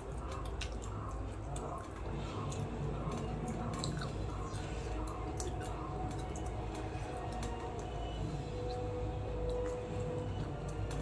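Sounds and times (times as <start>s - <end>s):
fingers squishing through rice: 0.0s - 11.0s
wet chewing and smacking: 0.0s - 11.0s.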